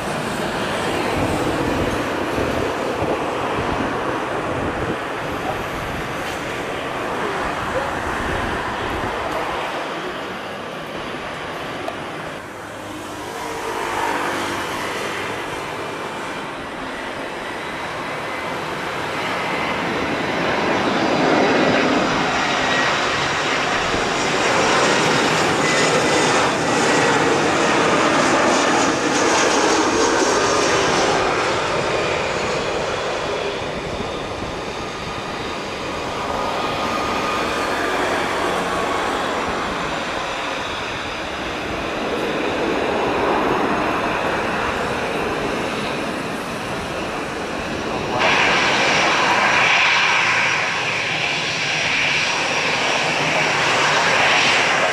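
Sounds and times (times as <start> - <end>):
jet engine roar with whine: 0.0 - 54.9.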